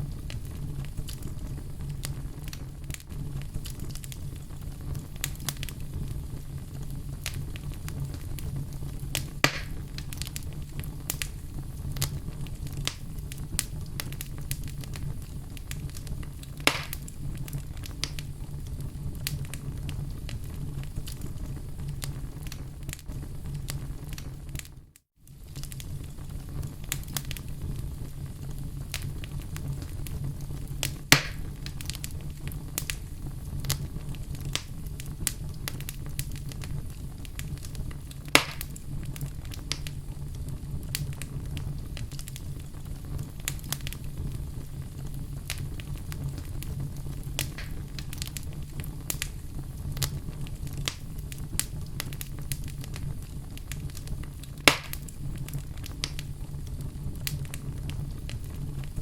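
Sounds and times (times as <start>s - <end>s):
fire crackling in fireplace: 0.0s - 59.0s
loud fire pops: 0.0s - 59.0s.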